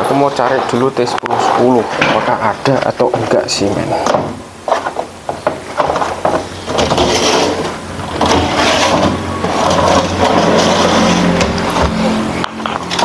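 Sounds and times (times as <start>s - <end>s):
parts rustling and clattering: 0.0s - 13.0s.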